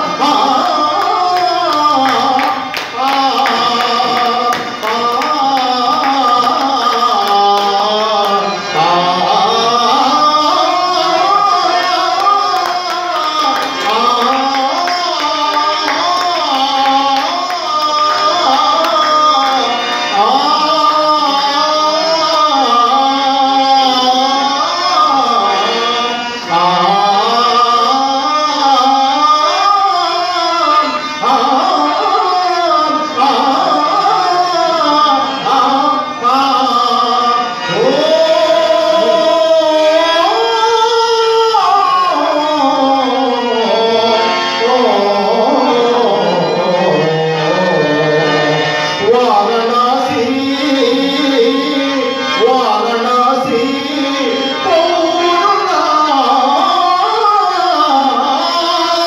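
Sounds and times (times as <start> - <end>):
man singing into a microphone: 0.0 - 59.0.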